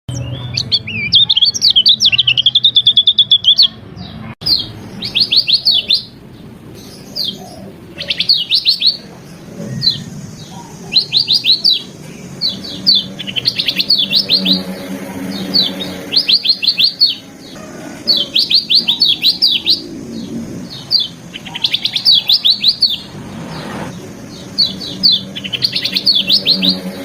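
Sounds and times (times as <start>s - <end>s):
bird singing varied song: 0.1s - 27.0s.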